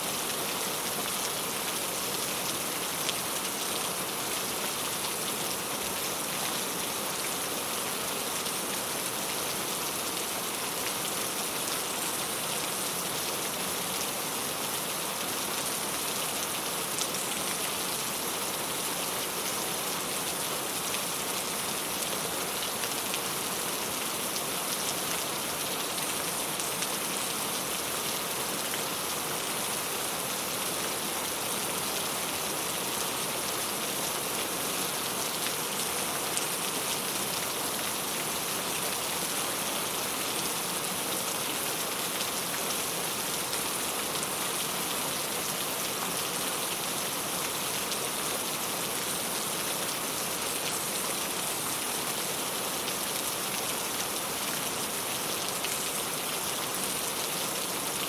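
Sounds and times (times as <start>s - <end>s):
rain on a tile roof: 0.0s - 58.0s.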